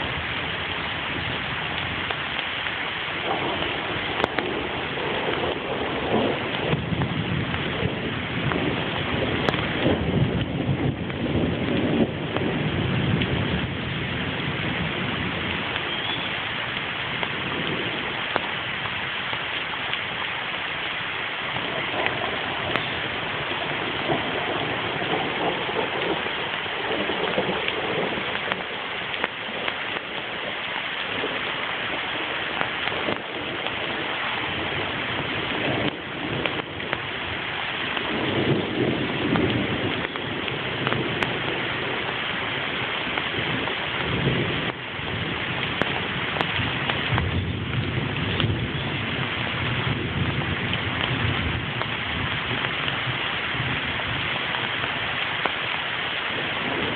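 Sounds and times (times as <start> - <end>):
distant thunder rumbling: 0.0 - 56.9
steady rain falling: 0.0 - 56.9.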